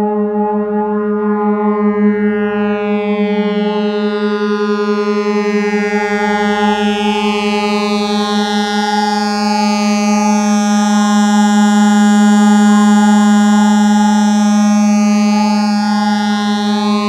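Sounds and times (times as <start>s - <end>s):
synthesizer drone: 0.0s - 17.0s.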